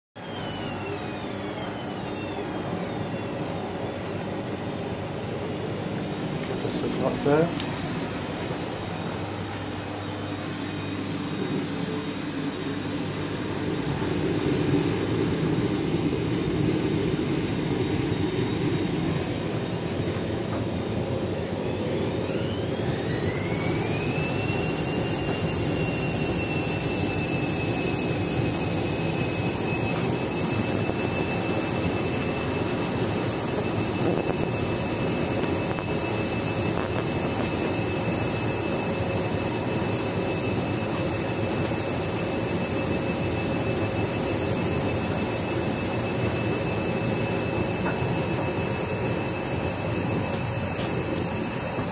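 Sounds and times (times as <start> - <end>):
washing machine motor whine: 0.2 - 51.9.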